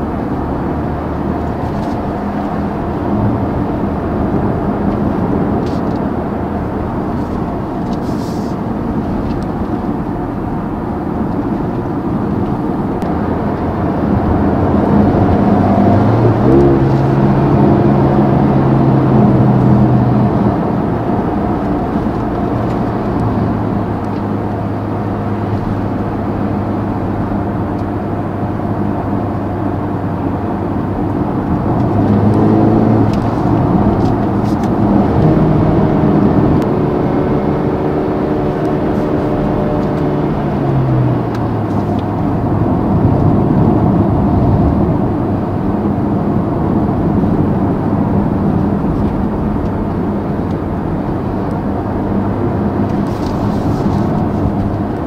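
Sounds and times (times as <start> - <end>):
car engine: 0.0 - 55.0
tyre and road noise: 0.0 - 55.0.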